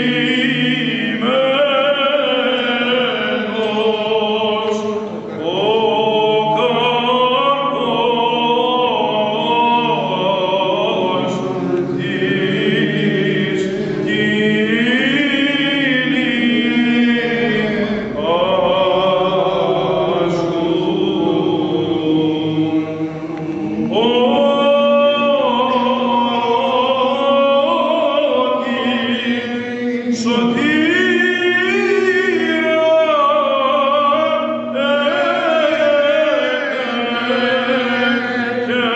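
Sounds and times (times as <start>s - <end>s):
held vocal drone: 0.0s - 38.9s
voices chanting slow melody: 0.0s - 38.9s.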